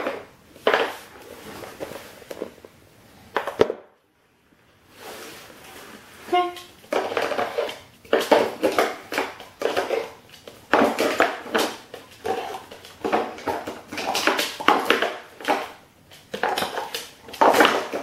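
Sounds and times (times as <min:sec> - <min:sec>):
plastic cups clattering on floor: 0:00.0 - 0:02.7, 0:03.3 - 0:03.9, 0:06.3 - 0:18.0.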